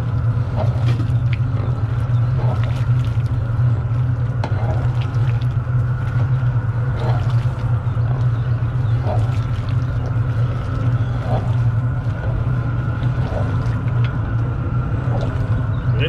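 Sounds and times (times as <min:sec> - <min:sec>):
propane burner roaring: 0:00.0 - 0:16.0.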